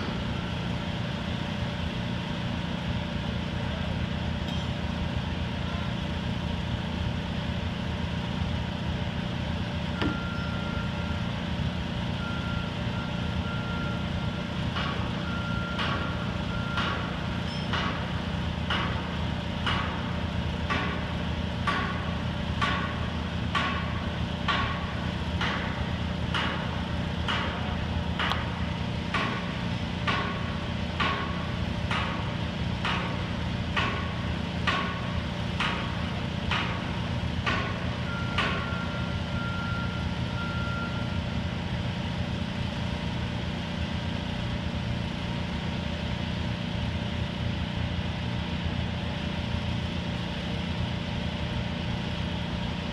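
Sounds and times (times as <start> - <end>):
diesel crane engine running: 0.0 - 52.9.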